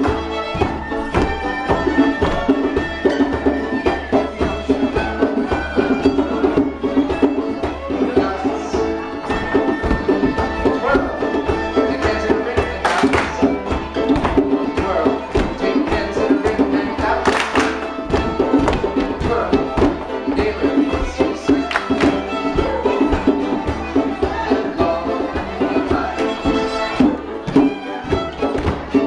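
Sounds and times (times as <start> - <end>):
live folk band dance music: 0.0 - 29.0.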